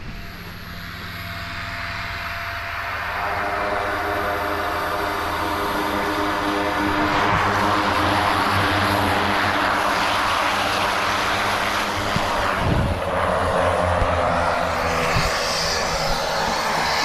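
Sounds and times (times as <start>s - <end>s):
propeller airplane engine drone: 0.0s - 17.0s.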